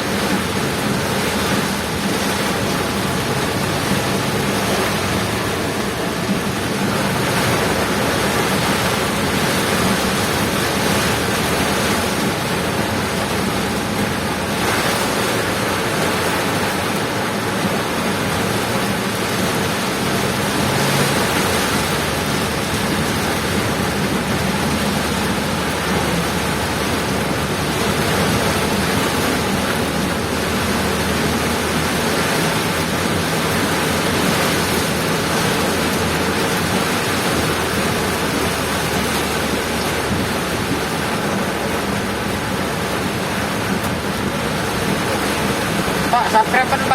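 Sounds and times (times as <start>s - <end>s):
heavy rain on a car: 0.0s - 46.9s
tyre and road noise: 0.0s - 46.9s.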